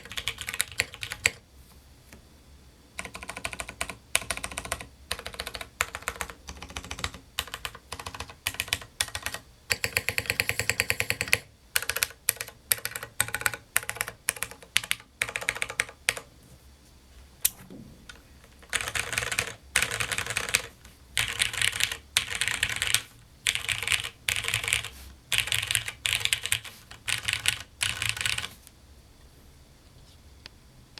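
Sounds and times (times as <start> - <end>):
mechanical keyboard typing: 0.0 - 1.4, 3.0 - 16.3, 18.1 - 28.5.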